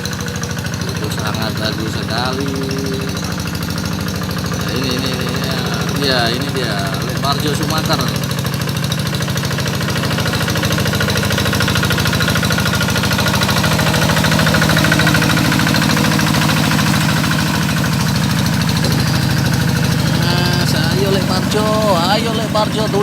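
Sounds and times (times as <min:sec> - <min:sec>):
tractor engine chugging: 0:00.0 - 0:23.0.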